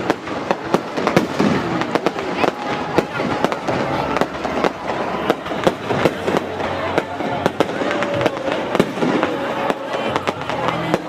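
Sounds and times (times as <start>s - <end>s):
fireworks bangs: 0.0s - 11.0s
people talking: 0.0s - 11.0s.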